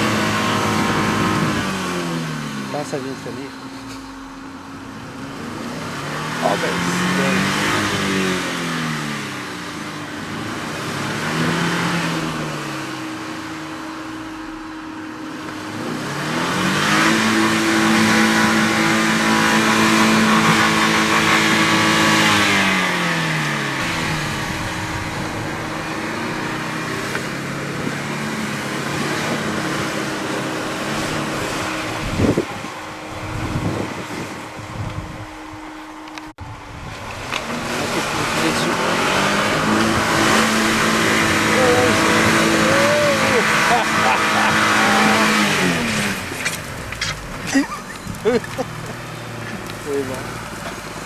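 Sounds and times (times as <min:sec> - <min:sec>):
vehicle engine revving: 0:00.0 - 0:51.0.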